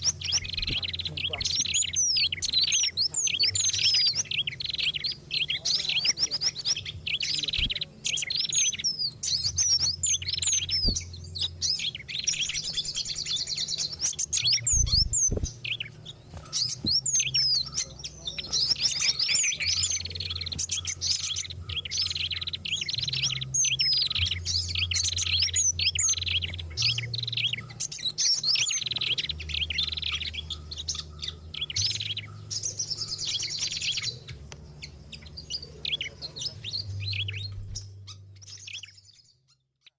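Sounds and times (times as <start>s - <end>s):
small songbirds chirping and trilling: 0.0s - 39.9s.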